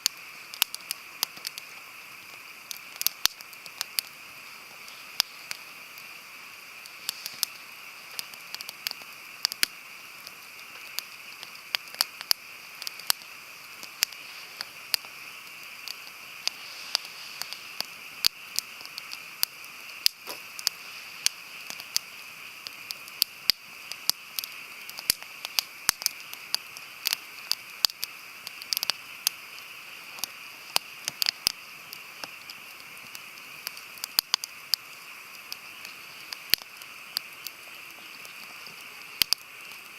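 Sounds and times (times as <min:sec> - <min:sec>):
campfire crackling: 0:00.0 - 0:39.9
sharp pops of fire: 0:00.0 - 0:39.9
steady fire hiss: 0:00.0 - 0:39.9.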